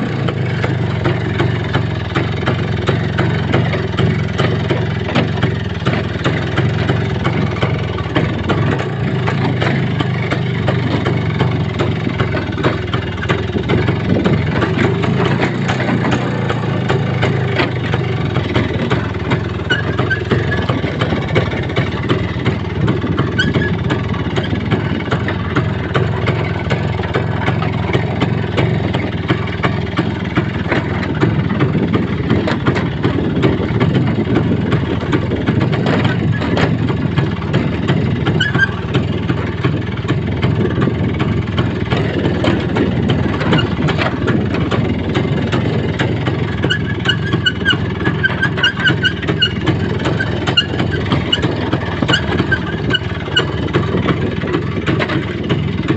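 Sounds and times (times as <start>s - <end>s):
small knocks and rattles: 0.0s - 55.9s
vehicle engine running: 0.0s - 55.9s.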